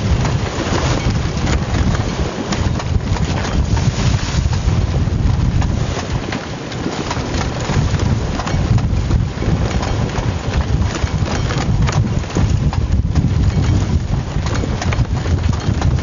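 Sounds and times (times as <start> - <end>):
water noise: 0.0 - 16.0
wind buffeting microphone: 0.0 - 16.0.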